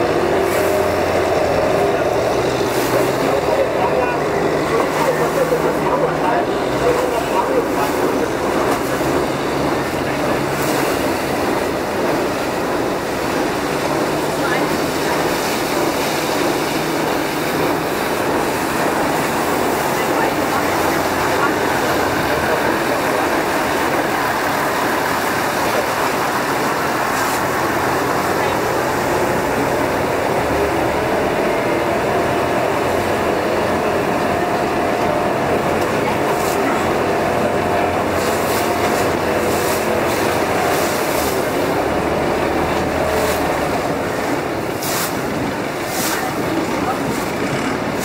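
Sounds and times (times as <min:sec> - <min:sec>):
motorboat engine running: 0:00.0 - 0:48.0
water rushing past hull: 0:00.0 - 0:48.0.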